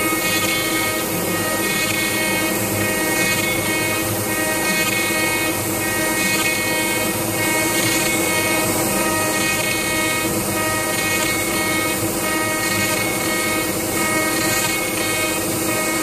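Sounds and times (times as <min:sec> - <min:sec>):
end mill cutting wood: 0:00.0 - 0:16.0
router spindle whining: 0:00.0 - 0:16.0.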